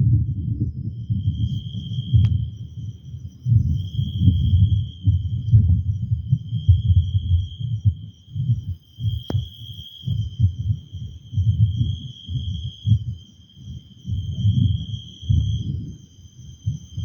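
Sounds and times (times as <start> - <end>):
wind buffeting microphone: 0.0 - 17.0
insects chirring: 0.1 - 17.0.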